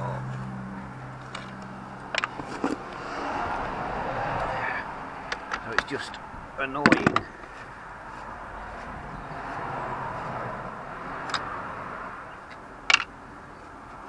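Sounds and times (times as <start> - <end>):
outdoor background rush: 0.0 - 14.0.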